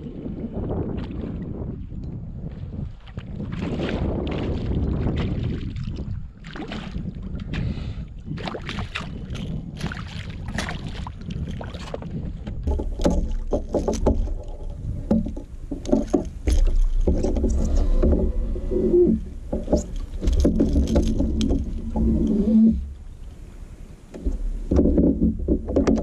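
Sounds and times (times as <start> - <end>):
water splashing against kayak: 0.0 - 26.0
wind rumbling on microphone: 0.0 - 26.0.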